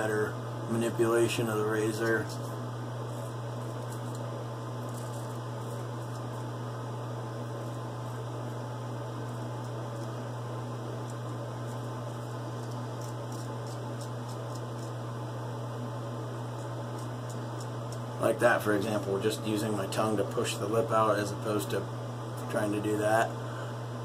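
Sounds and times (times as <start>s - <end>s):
low electrical hum: 0.0s - 24.0s
razor scraping stubble: 0.7s - 15.4s, 16.2s - 21.7s.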